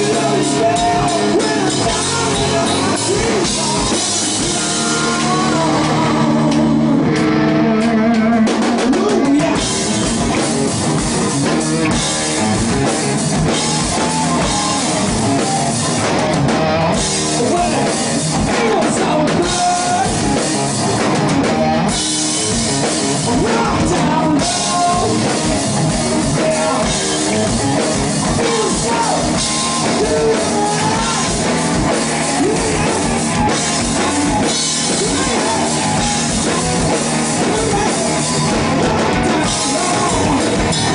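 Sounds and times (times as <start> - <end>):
distorted electric guitar: 0.0 - 40.9
driving drum kit: 0.0 - 40.9.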